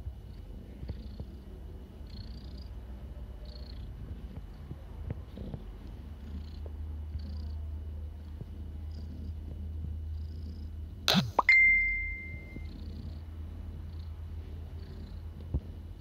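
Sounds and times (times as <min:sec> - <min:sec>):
cat purring: 0:00.0 - 0:11.1, 0:12.1 - 0:16.0.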